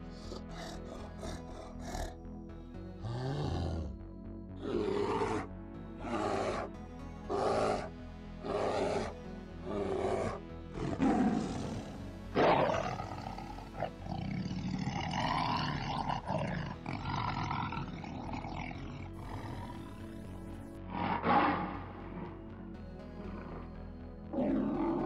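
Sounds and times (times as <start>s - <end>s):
background music: 0.0s - 25.0s
lion growling: 0.1s - 2.2s, 3.0s - 4.0s, 4.6s - 22.4s, 23.1s - 25.0s
lion roaring and huffing: 0.1s - 2.2s, 3.0s - 4.0s, 4.6s - 6.7s, 7.3s - 20.1s, 20.8s - 22.4s, 23.2s - 23.7s, 24.3s - 25.0s.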